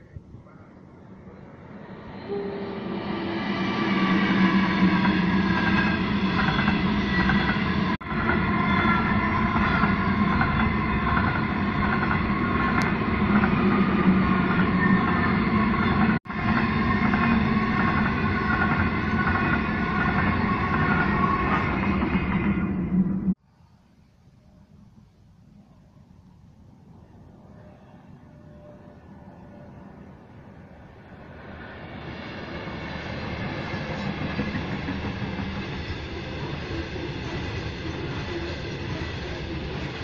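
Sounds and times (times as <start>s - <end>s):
train wheels rumbling on rail: 0.0s - 23.4s, 28.2s - 40.0s.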